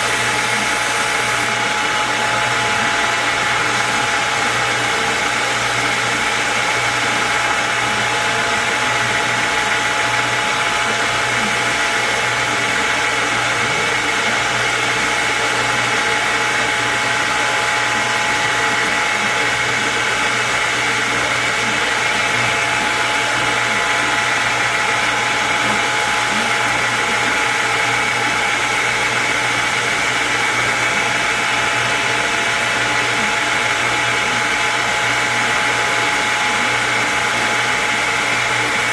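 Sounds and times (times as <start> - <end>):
electric machine whirring: 0.0 - 38.9.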